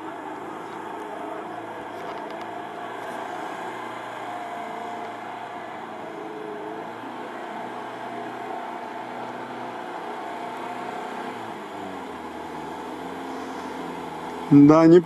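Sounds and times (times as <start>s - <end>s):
vehicle engine under load: 0.0s - 15.0s.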